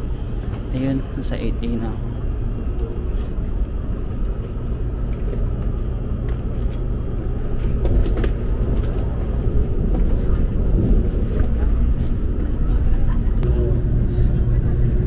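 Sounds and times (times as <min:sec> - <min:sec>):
train interior low rumble: 0:00.0 - 0:15.0.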